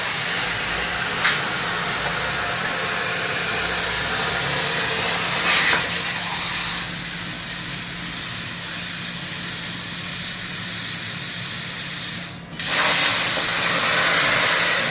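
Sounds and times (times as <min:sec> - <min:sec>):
plasma torch hissing: 0:00.0 - 0:14.9.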